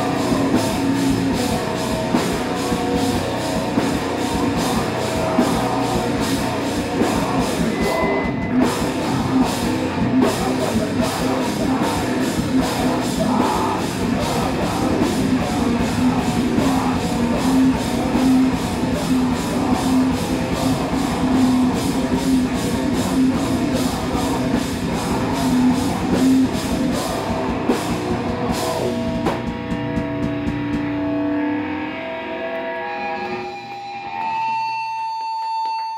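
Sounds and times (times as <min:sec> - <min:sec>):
drum kit: 0:00.0 - 0:32.0
bass guitar: 0:00.0 - 0:35.9
distorted electric guitars: 0:00.0 - 0:35.9.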